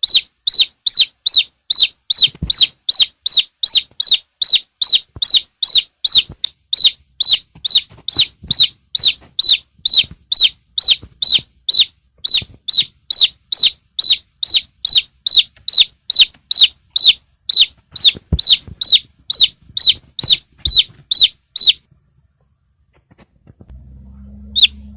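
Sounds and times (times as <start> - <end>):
chick peeping: 0.0 - 21.9, 24.4 - 24.9.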